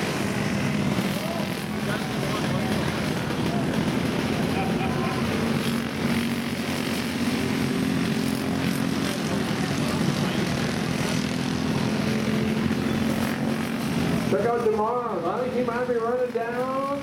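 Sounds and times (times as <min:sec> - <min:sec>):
racing kart engines droning: 0:00.0 - 0:17.0.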